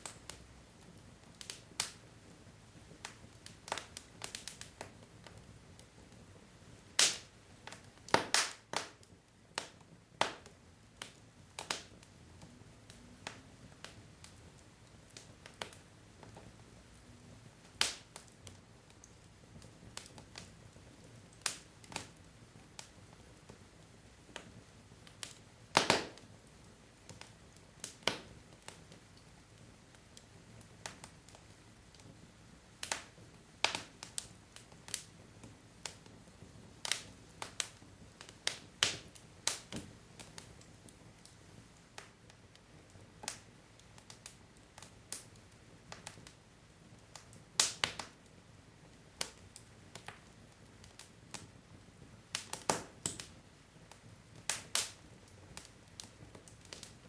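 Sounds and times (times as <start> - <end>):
wood logs crackling in fireplace: 0.0 - 57.0.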